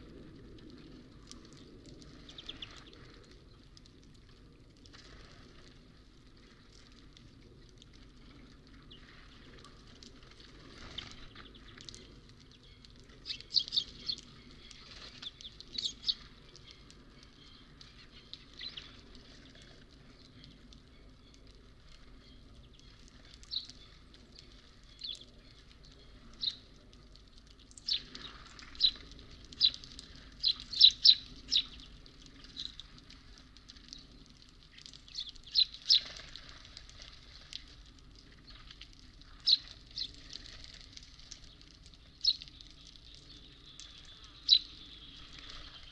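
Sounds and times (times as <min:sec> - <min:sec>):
songbirds chirping: 0:00.8 - 0:04.5, 0:06.4 - 0:45.9.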